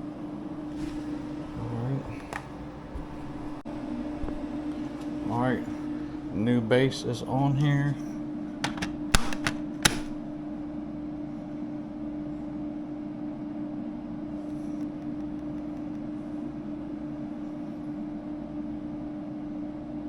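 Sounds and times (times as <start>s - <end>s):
air conditioning hum: 0.0s - 20.0s.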